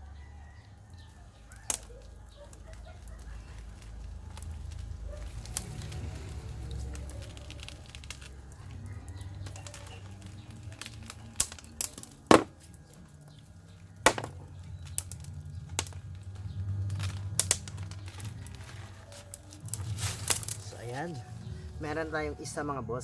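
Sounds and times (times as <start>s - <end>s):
plant fronds rustling: 0.1s - 23.0s
roots snapping: 0.2s - 22.1s.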